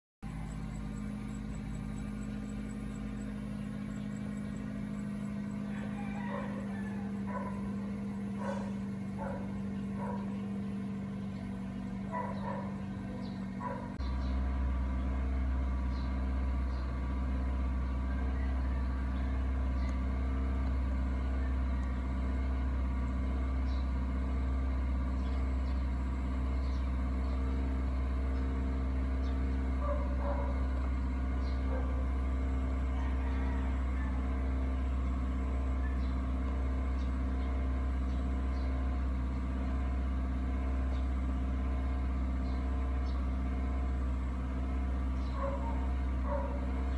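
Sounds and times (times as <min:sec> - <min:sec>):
low mechanical drone: 0:00.2 - 0:46.9.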